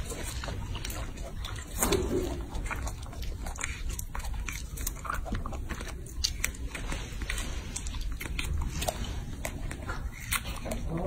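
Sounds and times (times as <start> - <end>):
monkey chewing strawberries: 0.0 - 11.0.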